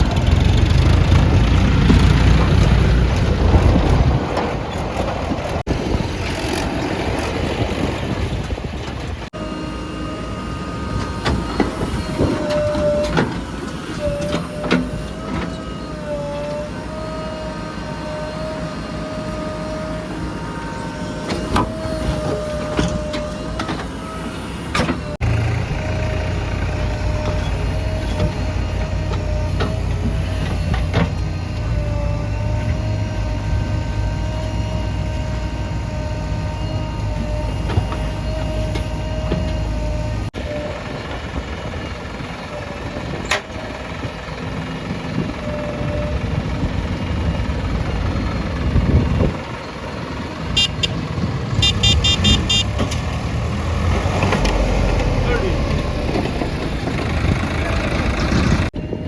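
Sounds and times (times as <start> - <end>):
diesel engines rumbling: 0.0 - 59.0
hydraulic whine: 0.0 - 59.0.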